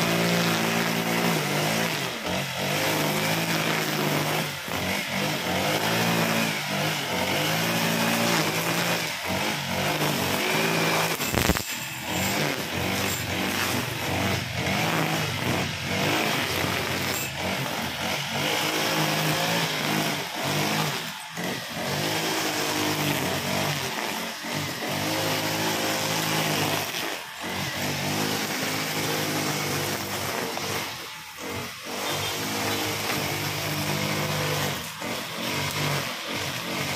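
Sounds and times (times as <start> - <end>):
brush cutter cutting grass: 0.0 - 36.9.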